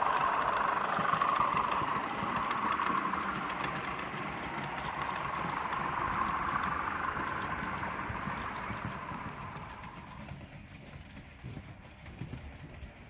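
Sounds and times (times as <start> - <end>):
model train locomotive whine: 0.0 - 11.7.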